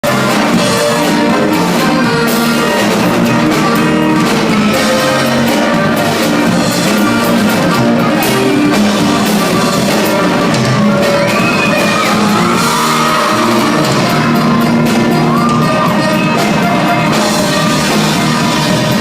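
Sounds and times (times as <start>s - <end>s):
live band instrumental music: 0.0s - 19.0s.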